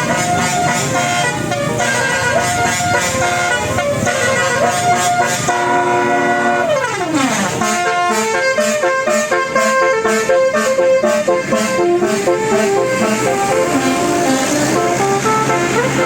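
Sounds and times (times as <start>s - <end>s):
multi-tone bus horn tune: 0.0s - 16.0s.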